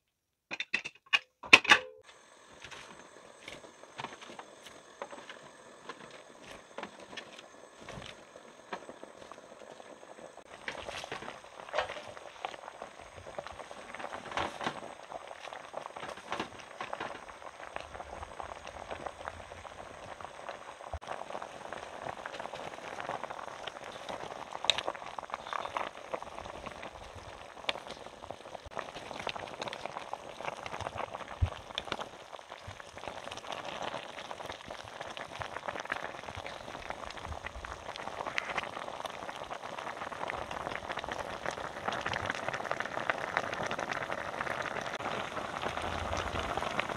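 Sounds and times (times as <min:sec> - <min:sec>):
liquid bubbling in a pot: 0:02.0 - 0:46.9.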